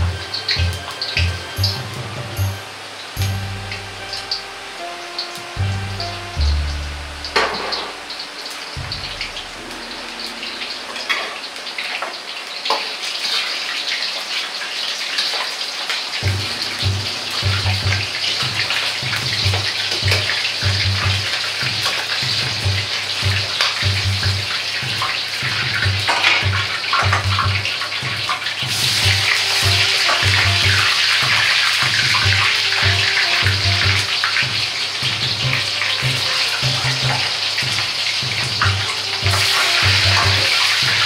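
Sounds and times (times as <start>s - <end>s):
background music with low beat: 0.0s - 11.3s, 16.2s - 41.0s
shrimp sizzling in hot oil: 0.0s - 41.0s.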